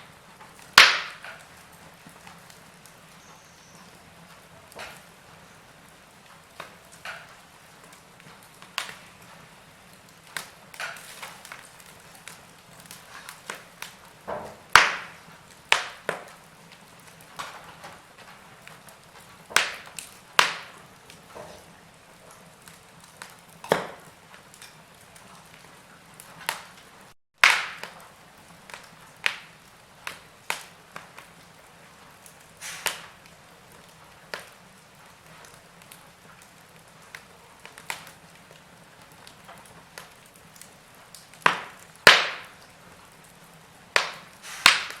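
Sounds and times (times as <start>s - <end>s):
logs crackling in fireplace: 0.0s - 45.0s.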